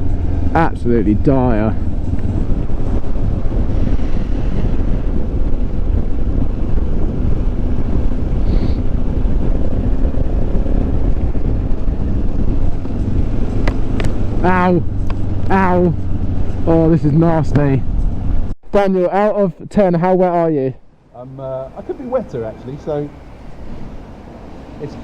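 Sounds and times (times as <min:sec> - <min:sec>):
faint motorcycle engine drone: 0:00.0 - 0:25.0
wind roaring over microphone: 0:00.0 - 0:25.0.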